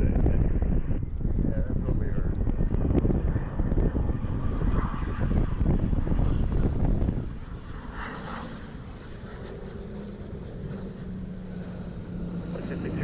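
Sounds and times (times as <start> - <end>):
aircraft engine rumble and hum: 0.0 - 13.0.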